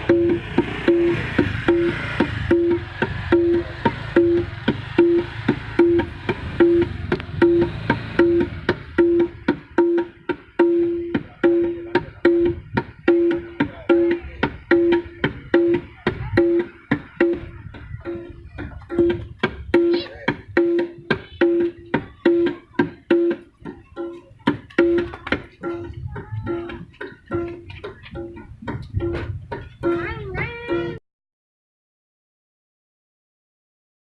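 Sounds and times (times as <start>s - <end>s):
light drum slaps: 0.0s - 30.2s
hand drum ringing strokes: 0.0s - 31.0s.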